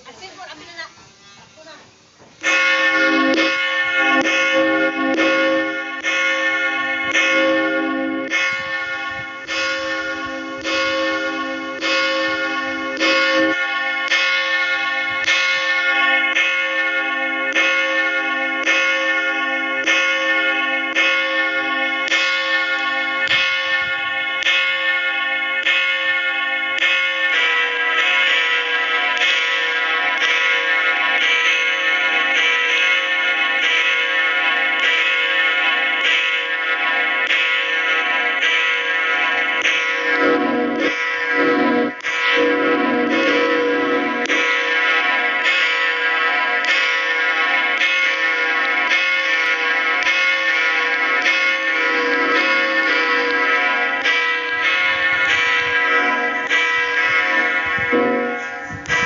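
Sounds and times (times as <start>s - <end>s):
church bells ringing: 2.4s - 59.0s.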